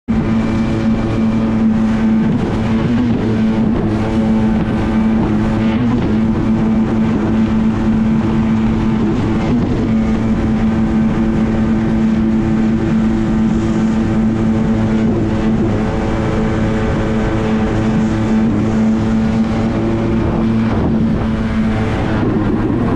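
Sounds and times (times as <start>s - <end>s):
water rushing against hull: 0.1s - 22.9s
watercraft engine running: 0.1s - 22.9s.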